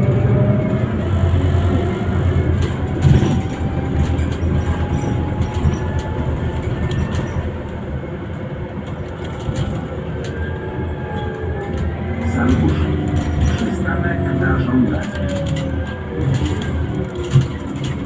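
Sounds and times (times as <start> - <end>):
bus engine and tyres rumbling: 0.0 - 18.0.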